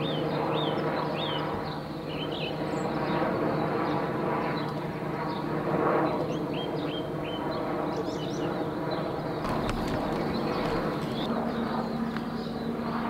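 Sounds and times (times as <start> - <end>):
small birds chirping: 0.0 - 12.9
buzzing mechanical hum: 0.0 - 13.0.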